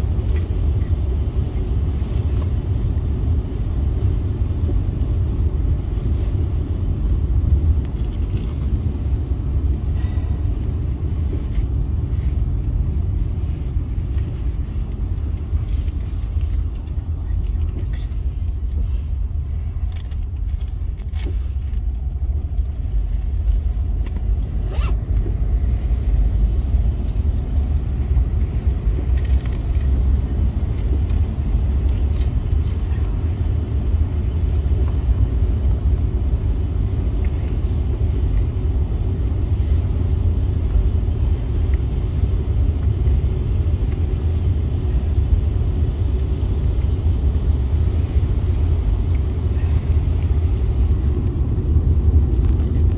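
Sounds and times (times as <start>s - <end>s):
car road rumble on wet road: 0.0s - 52.9s.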